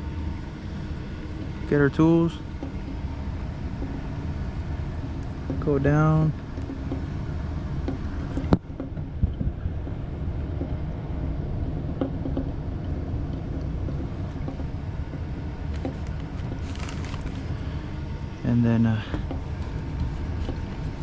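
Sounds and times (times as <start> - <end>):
air conditioning hum: 0.0 - 21.0.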